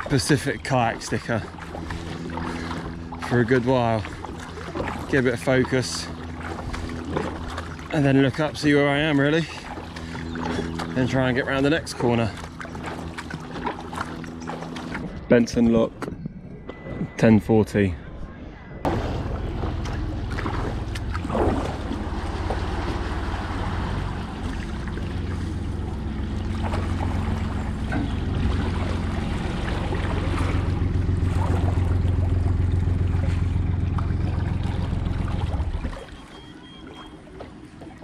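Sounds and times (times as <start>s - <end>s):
low engine hum: 0.0s - 38.0s.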